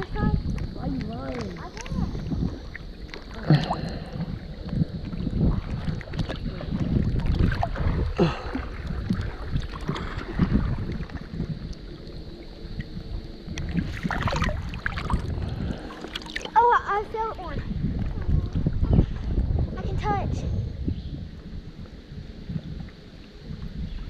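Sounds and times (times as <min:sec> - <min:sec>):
water sloshing and splashing: 0:00.0 - 0:20.1
wind rumbling on microphone: 0:00.0 - 0:24.0.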